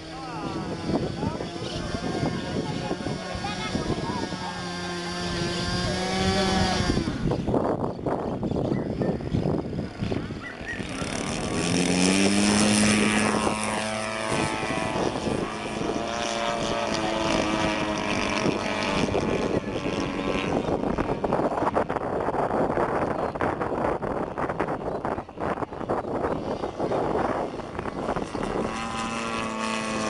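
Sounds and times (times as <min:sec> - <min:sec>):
model airplane engine and propeller: 0:00.0 - 0:30.0
outdoor noise: 0:00.0 - 0:30.0.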